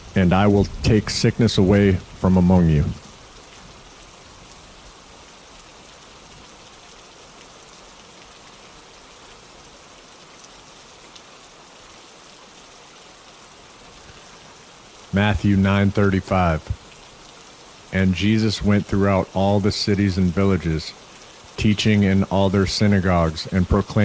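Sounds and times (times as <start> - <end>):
scattered raindrops: 0.0 - 24.0
steady rain hiss: 0.0 - 24.0.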